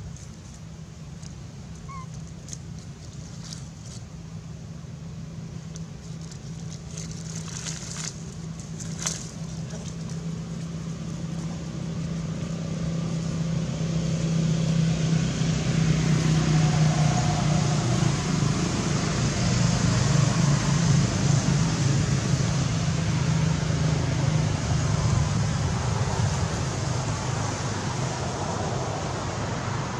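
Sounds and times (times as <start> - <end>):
vehicle engine running: 0.0 - 29.9.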